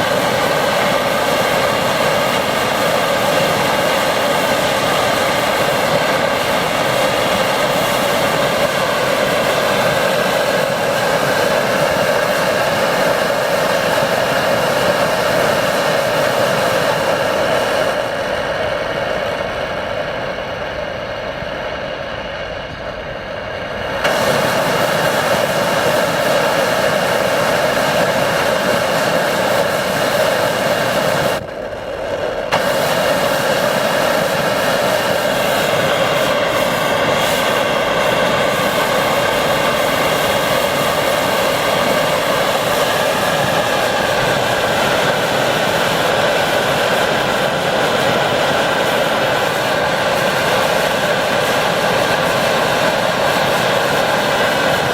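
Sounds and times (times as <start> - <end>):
pressure stove burner roaring: 0.0 - 54.9.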